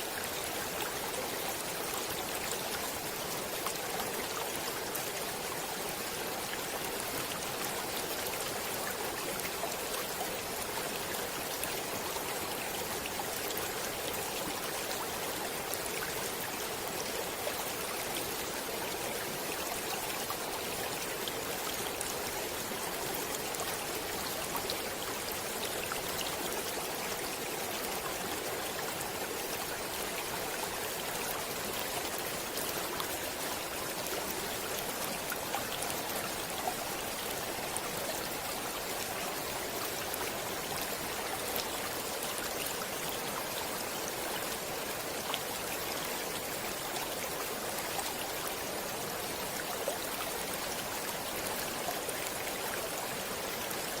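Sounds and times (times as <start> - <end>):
stream water splashing over rocks: 0.0 - 54.0.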